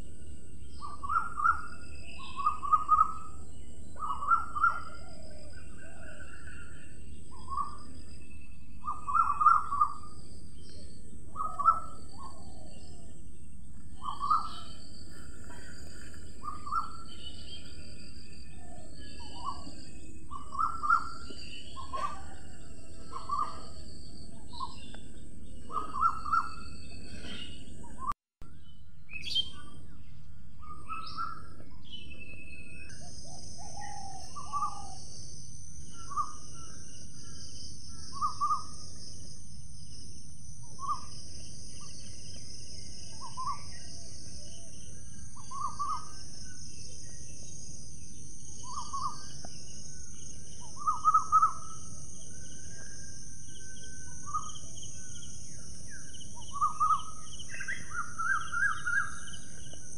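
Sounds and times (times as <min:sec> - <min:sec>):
birds calling: 0:00.0 - 0:59.9.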